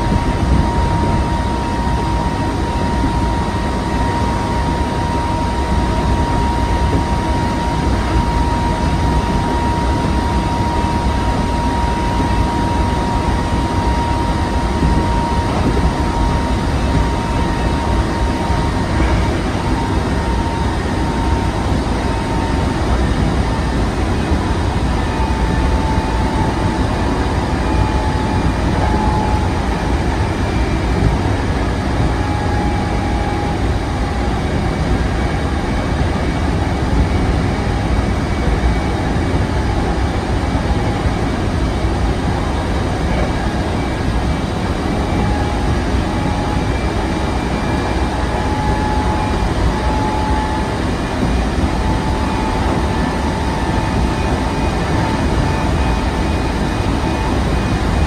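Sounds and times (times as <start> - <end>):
rumble of train wheels: 0.0 - 58.0
thin whine: 0.0 - 58.0.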